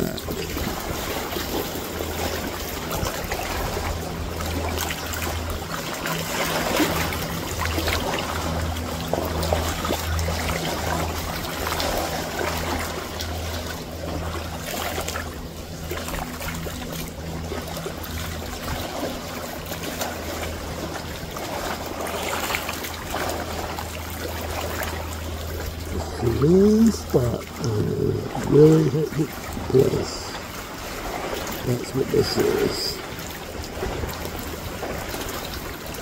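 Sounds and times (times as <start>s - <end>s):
low steady hum: 0.0s - 36.0s
small waves lapping at shore: 0.0s - 36.0s.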